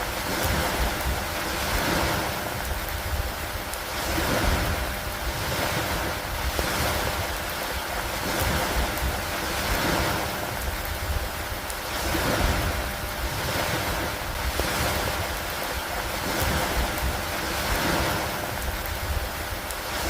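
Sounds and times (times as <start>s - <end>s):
rain on wooden dock: 0.0s - 20.0s.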